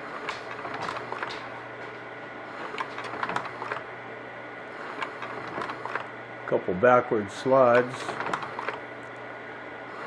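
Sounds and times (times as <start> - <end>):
projector cooling fan hum: 0.0 - 10.0.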